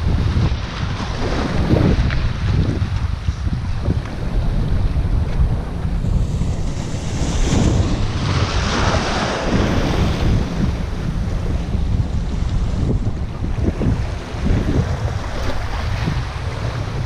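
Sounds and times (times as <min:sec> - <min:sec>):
waves washing through rocks: 0:00.0 - 0:17.0
wind buffeting microphone: 0:00.0 - 0:17.0.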